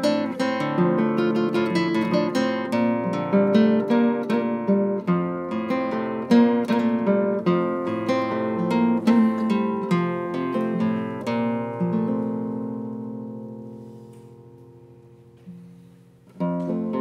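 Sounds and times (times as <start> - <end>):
classical guitar melody: 0.0 - 17.0.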